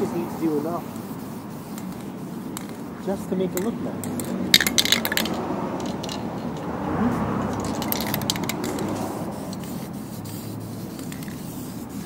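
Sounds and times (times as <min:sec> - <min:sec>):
spray paint can rattling: 0:00.9 - 0:12.0.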